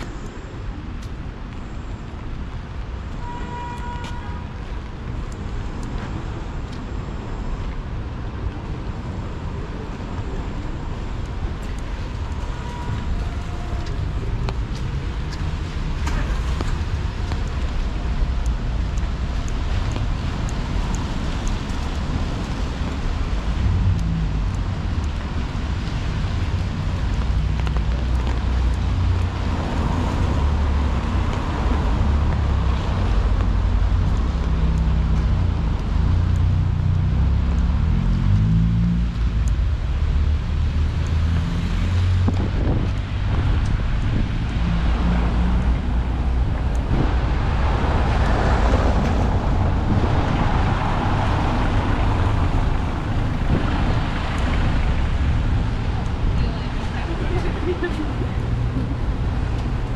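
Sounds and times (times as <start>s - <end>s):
car traffic: 0.0s - 59.9s
rain on an umbrella: 0.0s - 59.9s
wind rumble on microphone: 0.0s - 59.9s.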